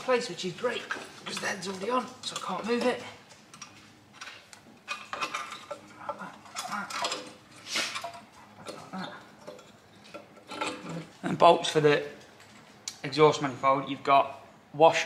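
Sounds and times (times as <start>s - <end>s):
metal clinking and scraping: 0.6s - 12.8s.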